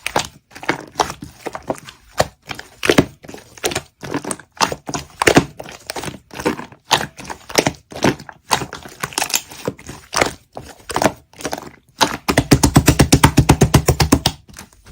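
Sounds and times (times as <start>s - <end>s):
clay squishing through slime: 0.0s - 14.9s.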